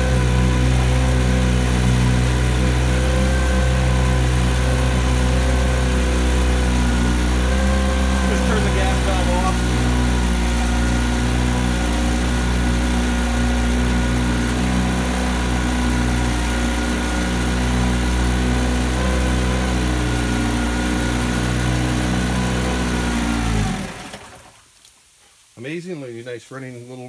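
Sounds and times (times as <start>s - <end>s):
outboard engine running: 0.0s - 24.6s.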